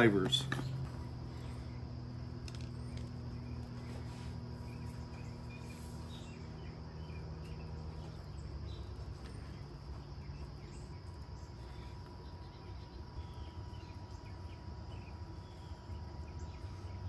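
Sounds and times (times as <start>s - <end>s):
insects droning: 0.0s - 17.0s
low steady hum: 0.0s - 17.0s.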